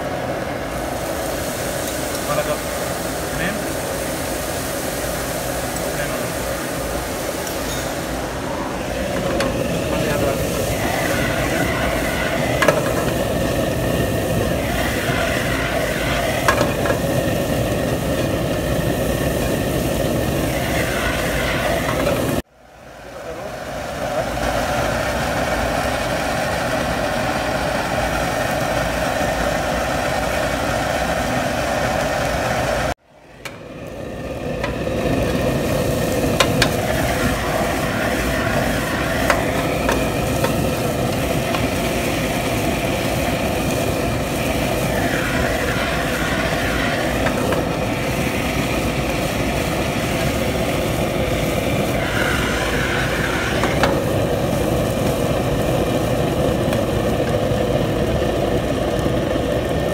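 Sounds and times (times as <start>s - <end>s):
gas burner roaring: 0.0s - 59.9s.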